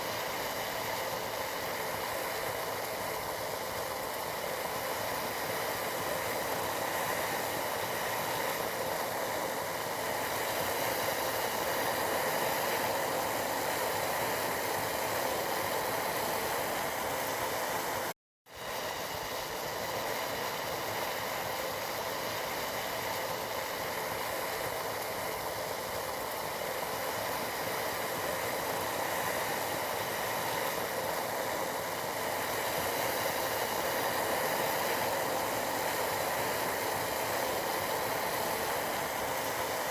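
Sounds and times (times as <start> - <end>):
tea boiling: 0.0 - 39.9.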